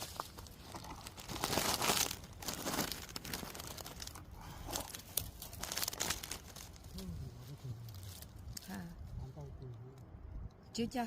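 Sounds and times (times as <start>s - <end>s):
rustling and crunching: 0.0s - 10.5s.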